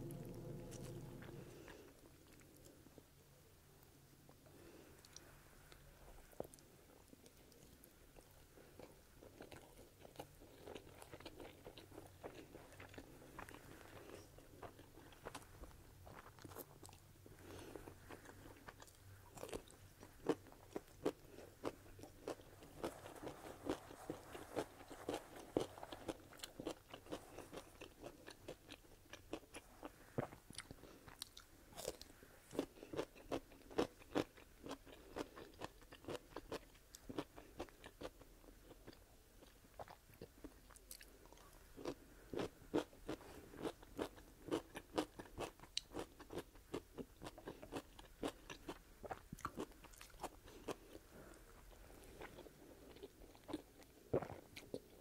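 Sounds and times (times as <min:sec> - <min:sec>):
chewing crunchy pickle: 0:05.0 - 0:55.0.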